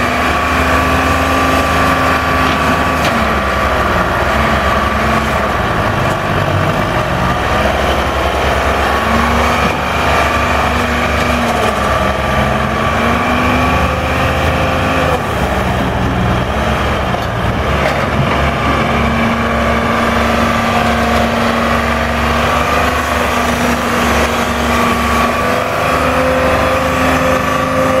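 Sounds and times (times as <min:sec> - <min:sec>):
log loader engine running: 0:00.0 - 0:28.0.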